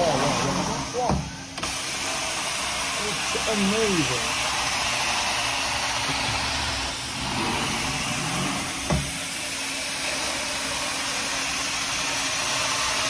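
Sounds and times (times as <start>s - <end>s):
extraction vacuum roaring: 0.0s - 13.0s.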